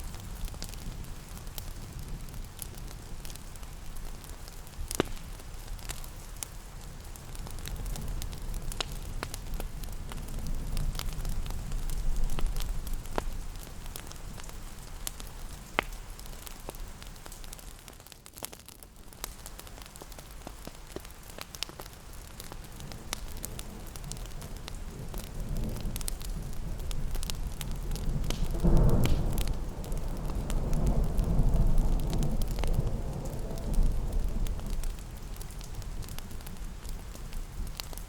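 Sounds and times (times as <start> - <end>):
steady rain: 0.0 - 38.0
wood fire crackling: 0.0 - 38.0.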